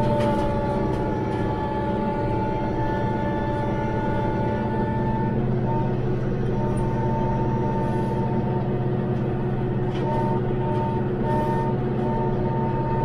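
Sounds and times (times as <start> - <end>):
thin whine: 0.0 - 13.0
tractor diesel engine running: 0.0 - 13.0.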